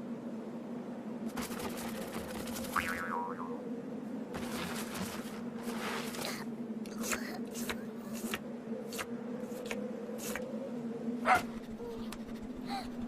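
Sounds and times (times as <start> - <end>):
low buzzing drone: 0.0 - 13.0.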